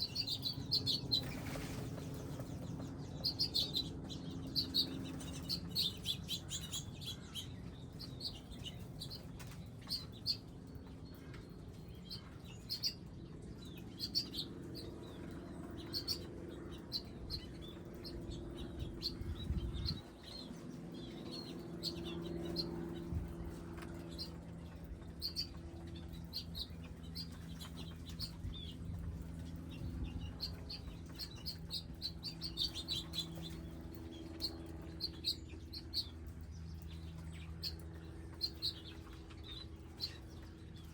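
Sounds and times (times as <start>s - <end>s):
small birds chirping: 0.0s - 40.9s
steady low hum: 0.0s - 40.9s.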